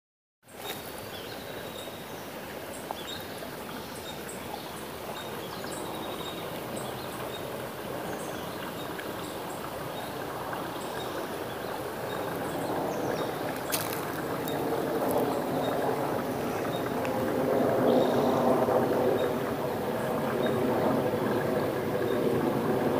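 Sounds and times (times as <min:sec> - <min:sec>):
creek water flowing: 0:00.5 - 0:22.9.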